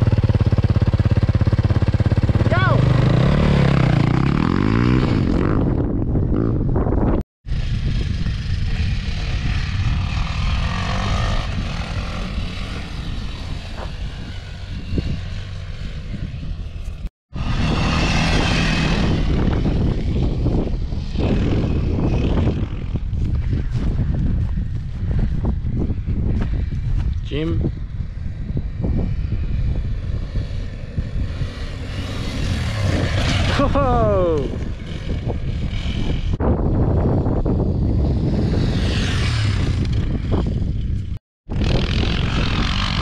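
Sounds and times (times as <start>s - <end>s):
dirt bike engine revving: 0.0s - 6.6s, 7.5s - 16.4s, 17.4s - 23.2s, 28.4s - 43.0s
wind rushing over microphone: 0.0s - 43.0s.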